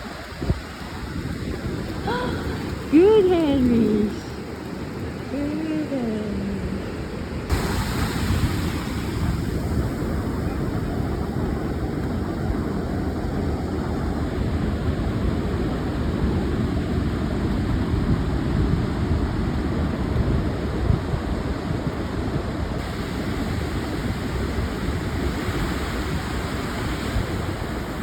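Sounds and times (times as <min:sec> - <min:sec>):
wind buffeting microphone: 0:00.0 - 0:05.4, 0:06.3 - 0:28.0
ocean surf: 0:00.0 - 0:28.0.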